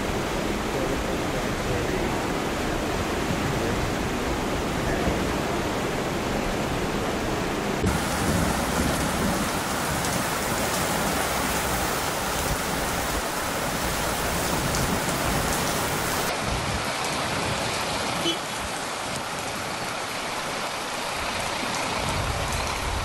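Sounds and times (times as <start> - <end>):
rushing floodwater: 0.0 - 23.0
torrential rain on a street: 0.0 - 23.0.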